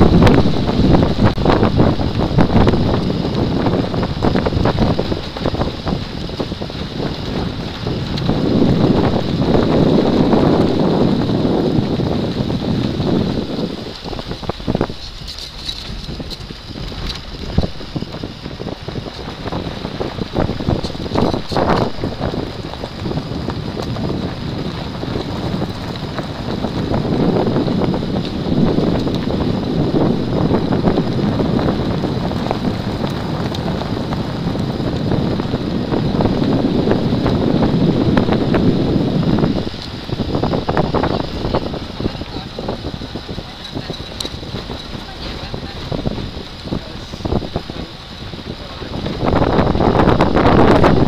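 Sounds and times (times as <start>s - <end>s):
vehicle engine and tyre noise: 0.0s - 51.0s
wind on microphone: 0.0s - 51.0s.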